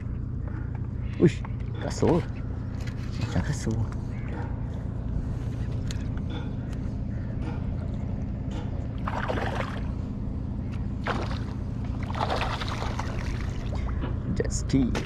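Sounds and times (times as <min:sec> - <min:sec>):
watercraft engine humming: 0:00.0 - 0:15.0.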